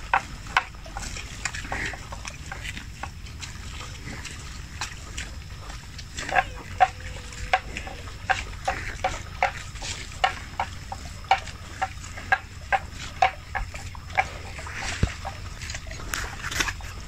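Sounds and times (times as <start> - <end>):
faint high hum: 0.0 - 17.0
grass tearing and chewing: 0.0 - 17.0.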